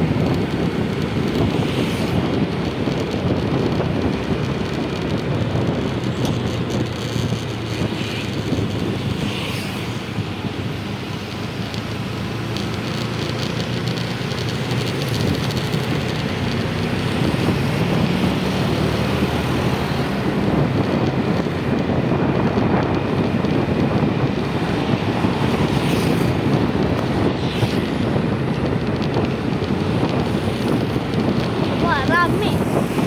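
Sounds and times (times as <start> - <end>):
road traffic noise: 0.0 - 33.0
wind rushing over microphone: 0.0 - 33.0.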